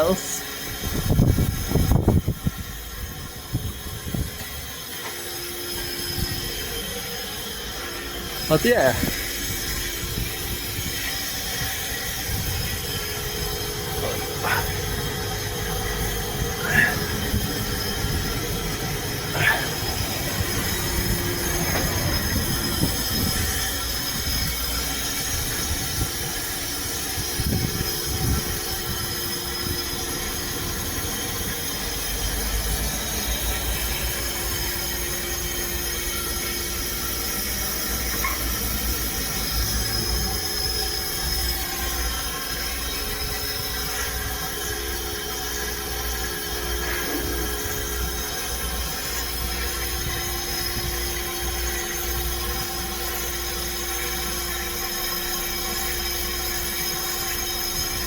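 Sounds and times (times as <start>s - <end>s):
high whine: 0.0s - 58.0s
pressure washer spraying water: 0.0s - 58.0s.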